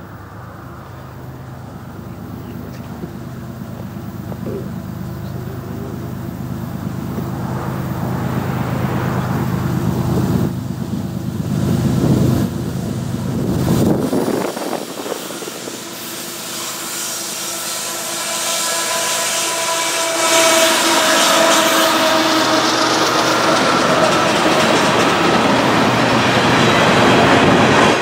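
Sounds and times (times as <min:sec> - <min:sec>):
locomotive engine drone: 0:00.0 - 0:28.0
steel wheels hissing on rails: 0:00.0 - 0:28.0.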